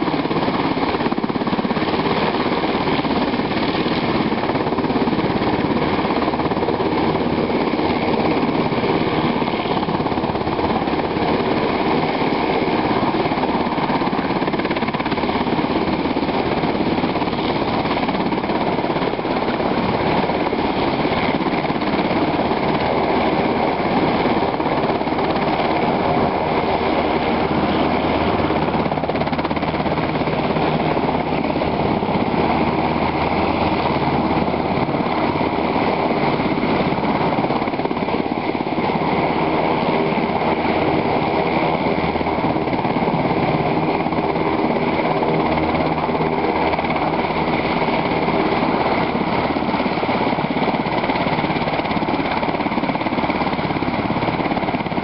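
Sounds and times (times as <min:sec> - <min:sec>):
helicopter rotor beat and whine: 0:00.0 - 0:55.0.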